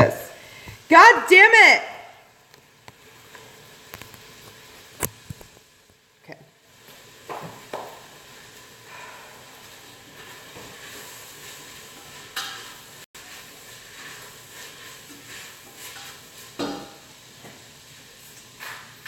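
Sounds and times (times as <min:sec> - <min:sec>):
food sizzling in a frying pan: 0:02.1 - 0:19.0.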